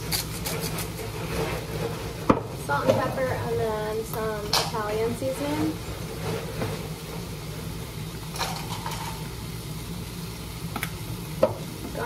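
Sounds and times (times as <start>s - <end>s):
range hood fan humming: 0.0s - 12.0s.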